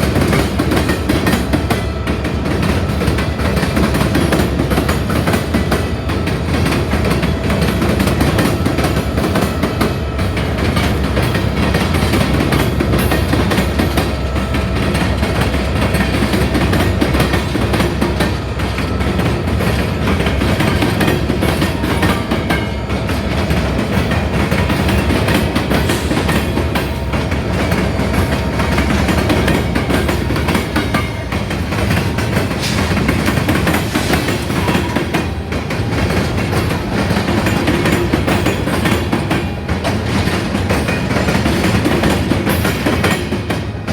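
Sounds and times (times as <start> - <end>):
steel wheels rumbling on rail: 0.0 - 43.9.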